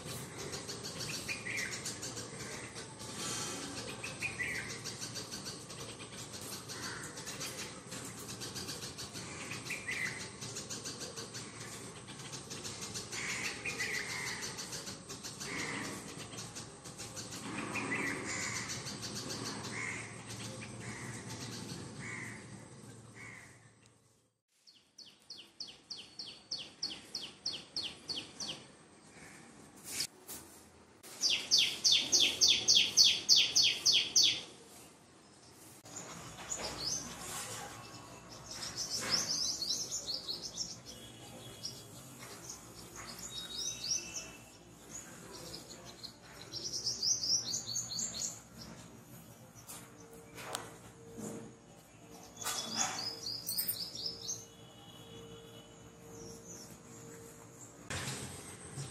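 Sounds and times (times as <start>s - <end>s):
birds chirping: 0.0s - 30.1s, 31.1s - 57.9s.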